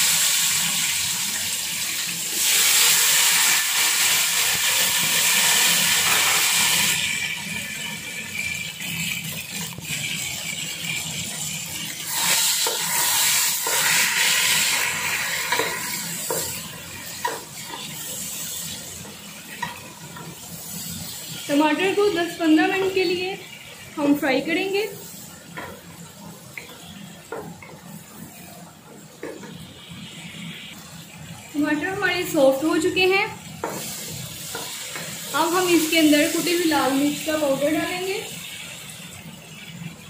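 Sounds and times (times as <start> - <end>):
tomatoes sizzling in hot oil: 0.0 - 40.0.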